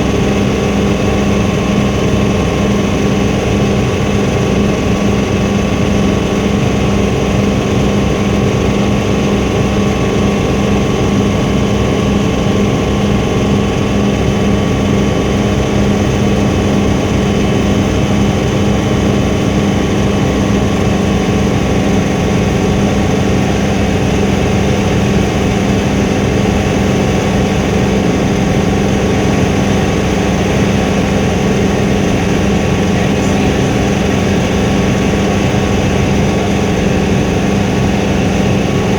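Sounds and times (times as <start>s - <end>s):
helicopter engine and rotors: 0.0s - 38.9s.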